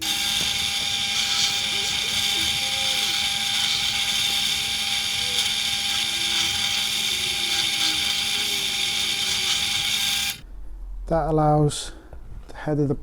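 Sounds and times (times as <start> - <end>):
pillar drill boring into timber: 0.0 - 10.4.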